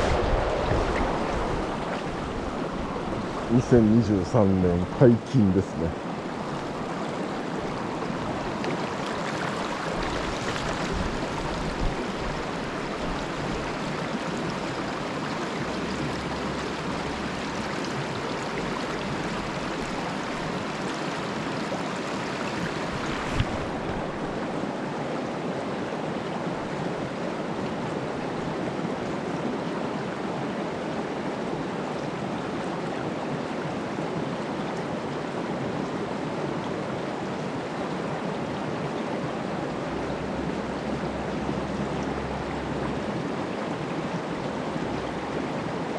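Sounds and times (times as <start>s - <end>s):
stream water rushing over rocks: 0.0s - 45.9s.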